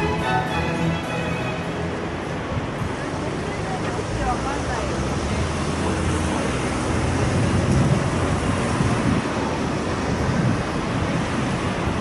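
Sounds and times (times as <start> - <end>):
rushing water and wind: 0.0 - 12.0.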